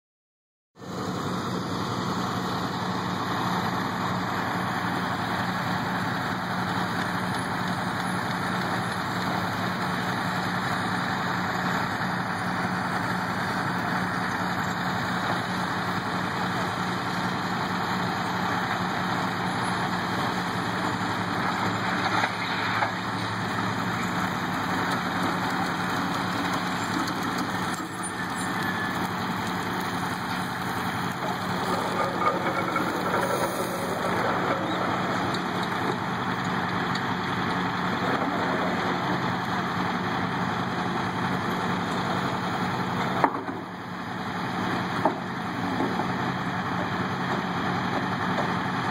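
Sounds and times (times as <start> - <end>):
crane diesel engine running: 0.8 - 48.9.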